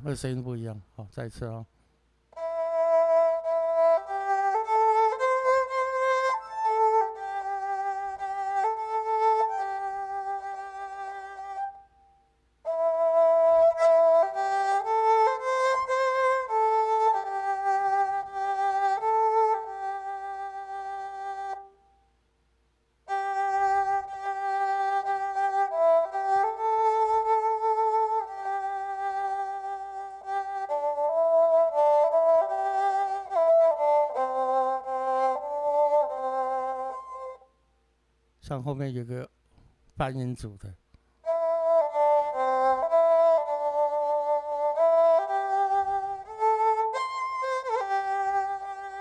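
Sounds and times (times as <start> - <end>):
synthesizer slow erhu-like melody: 2.4 - 22.0, 23.0 - 37.6, 41.2 - 49.0.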